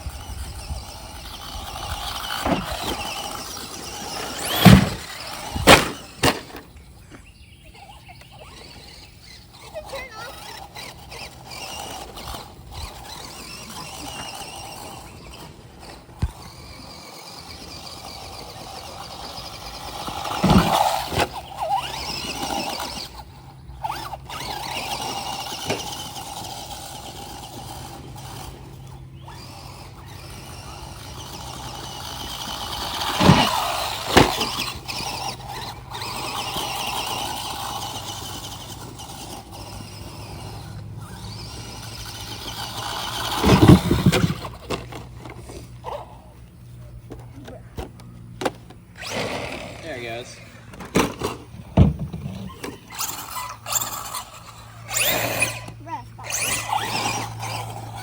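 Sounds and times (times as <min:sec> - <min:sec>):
rc car motors whining: 0:00.0 - 0:58.0.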